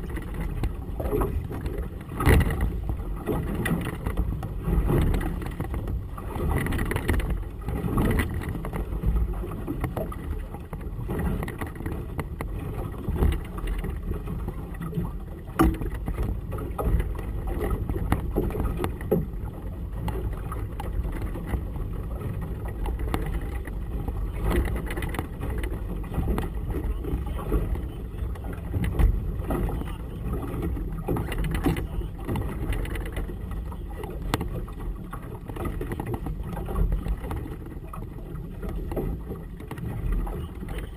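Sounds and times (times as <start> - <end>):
water splashing against hull: 0.0 - 40.9.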